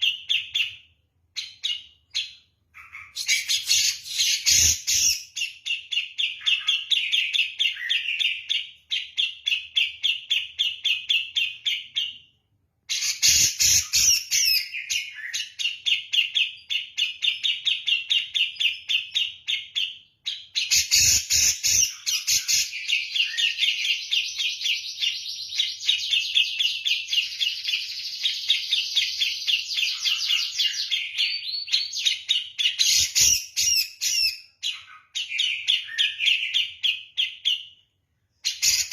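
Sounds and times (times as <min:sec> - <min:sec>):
bird chattering song: 0:00.0 - 0:12.3, 0:12.9 - 0:38.9.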